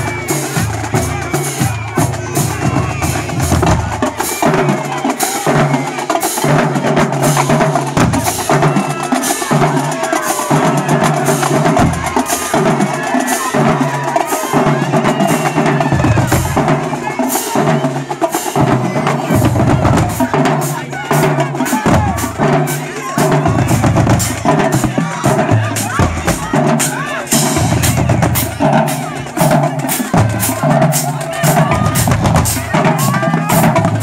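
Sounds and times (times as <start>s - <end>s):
fast sharp drum strokes: 0.0s - 34.0s.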